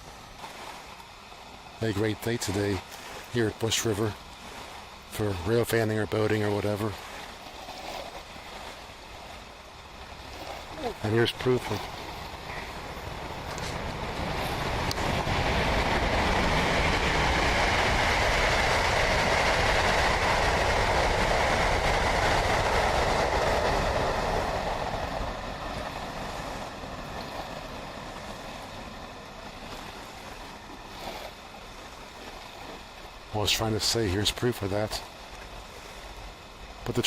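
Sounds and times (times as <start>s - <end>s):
train passing: 0.0s - 37.0s.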